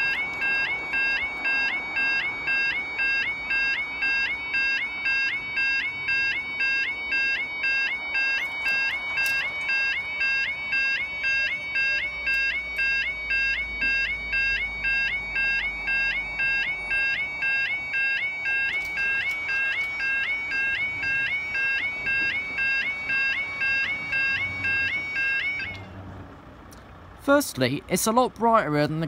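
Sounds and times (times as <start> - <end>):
level crossing two-tone alarm: 0.0 - 25.9.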